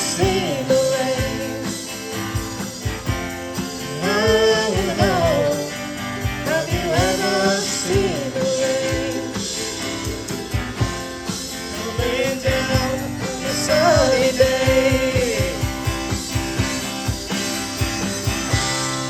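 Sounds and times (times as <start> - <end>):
rock band playing: 0.0 - 19.0
steady drum beat: 0.0 - 19.0.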